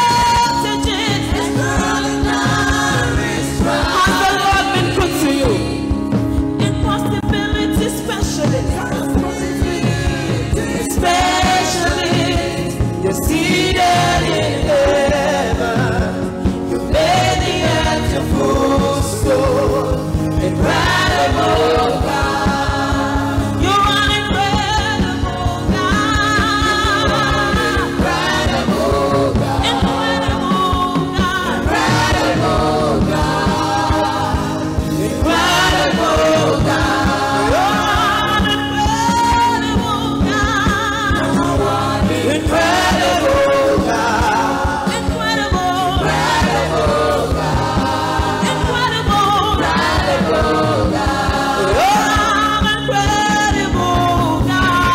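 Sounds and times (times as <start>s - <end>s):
electric bass guitar: 0.0s - 54.9s
gospel singers with band: 0.0s - 54.9s
keyboard: 0.0s - 54.9s.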